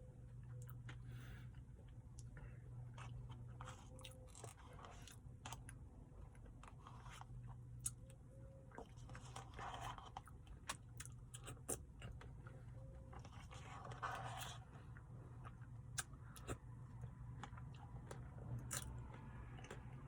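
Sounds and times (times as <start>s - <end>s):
close chewing and mouth sounds: 0.1s - 20.0s.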